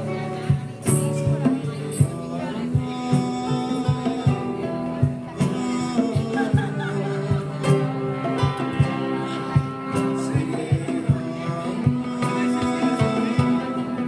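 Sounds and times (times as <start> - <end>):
drum kit steady beat: 0.0 - 14.0
man singing: 0.0 - 14.0
strummed acoustic guitar: 0.0 - 14.0.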